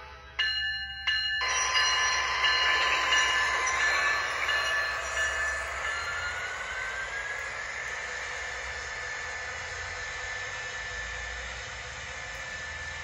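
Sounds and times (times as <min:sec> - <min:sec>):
diesel engine sound with whining: 0:02.0 - 0:13.0.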